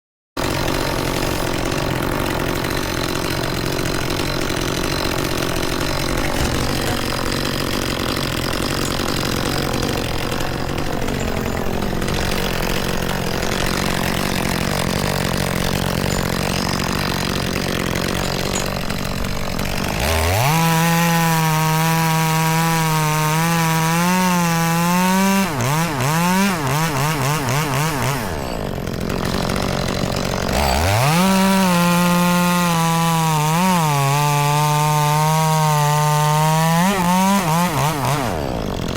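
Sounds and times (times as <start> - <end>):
chainsaw cutting wood: 0.4 - 38.9
chainsaw revving at full throttle: 0.4 - 38.9.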